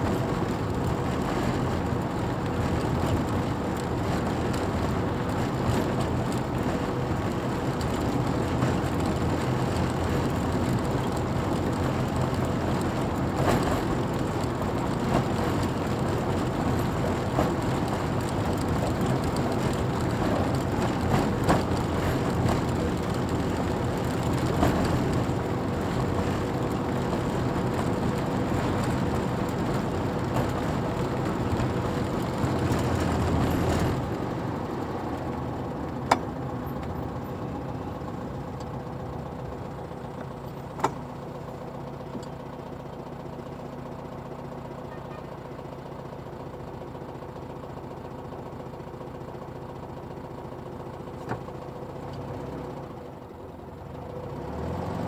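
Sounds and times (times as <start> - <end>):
car engine hum: 0.0 - 55.0
road and tyre noise: 0.0 - 55.0.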